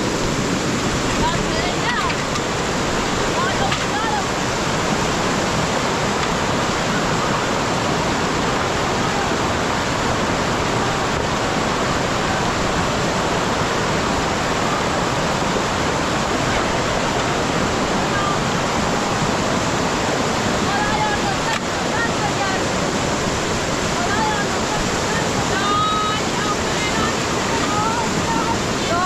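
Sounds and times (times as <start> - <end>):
rushing water roar: 0.0 - 29.0.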